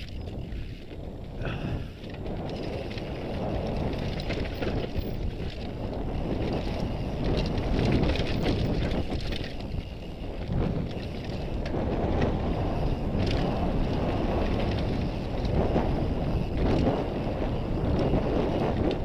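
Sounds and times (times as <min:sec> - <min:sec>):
tyres rolling over dirt and stones: 0:00.0 - 0:18.2
bike clattering over bumps: 0:00.0 - 0:19.0
wind buffeting microphone: 0:00.0 - 0:19.0.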